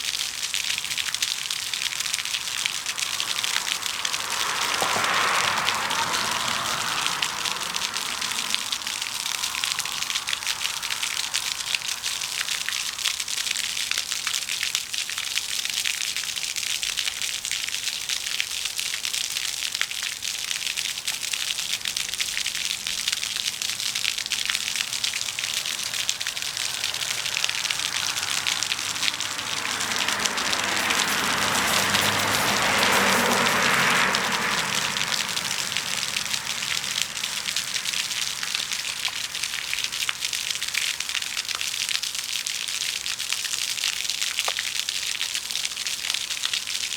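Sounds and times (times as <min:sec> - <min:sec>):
floodwater rushing and splashing: 0:00.0 - 0:46.9.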